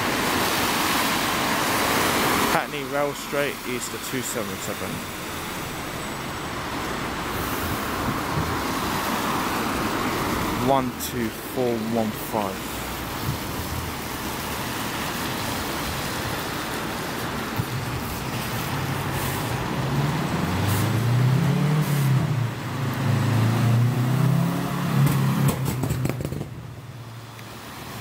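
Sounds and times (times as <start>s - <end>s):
bus drive hum: 0.0s - 28.0s
traffic noise: 0.0s - 28.0s.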